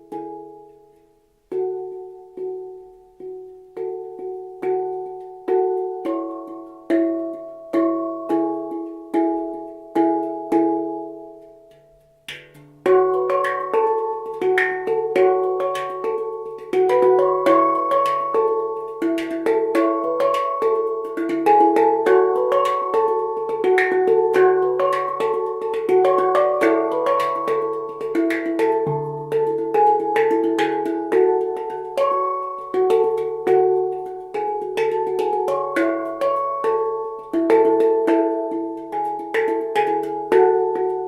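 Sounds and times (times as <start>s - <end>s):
handpan notes ringing: 0.0s - 41.0s
low handpan ding ringing: 1.5s - 41.0s.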